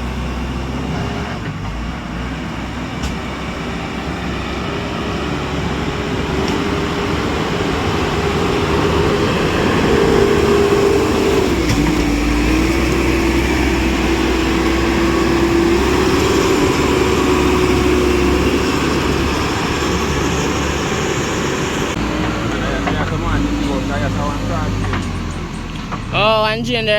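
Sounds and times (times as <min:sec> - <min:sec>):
tractor diesel engine running hard: 0:00.0 - 0:26.9.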